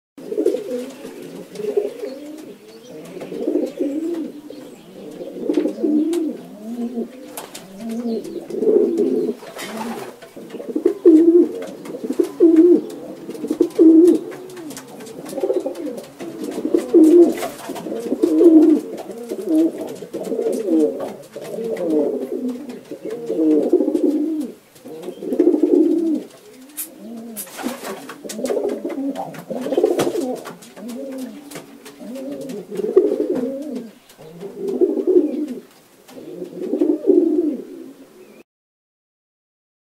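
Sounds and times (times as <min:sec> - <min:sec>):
pigeons cooing: 0:00.2 - 0:38.4.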